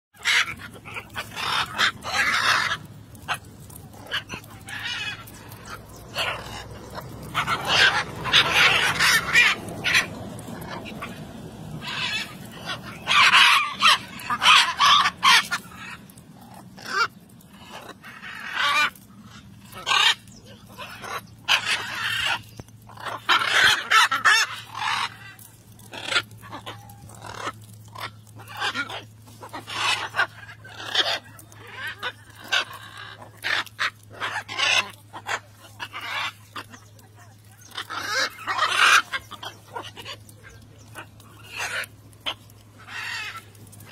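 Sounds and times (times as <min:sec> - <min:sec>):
macaws squawking: 0:00.2 - 0:43.9.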